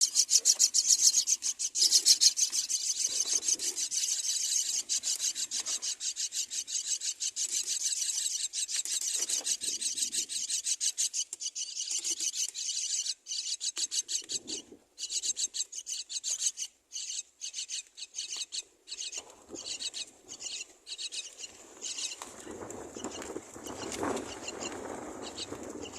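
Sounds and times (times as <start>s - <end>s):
nestlings begging calls: 0.0s - 25.9s.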